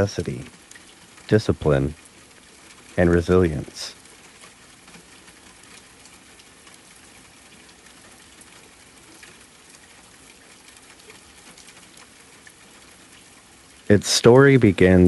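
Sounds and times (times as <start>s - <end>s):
faint raindrop ticks: 0.0s - 15.0s
soft hiss of falling rain: 0.0s - 15.0s.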